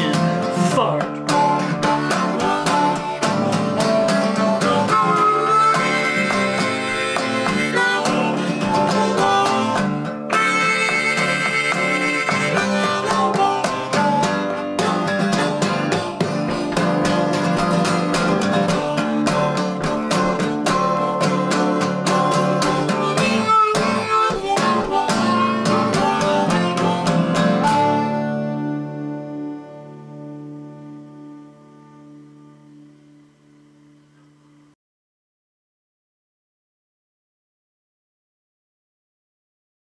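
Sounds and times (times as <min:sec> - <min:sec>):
harmonica: 0:00.0 - 0:34.3
fingerpicked acoustic guitar: 0:00.0 - 0:34.8.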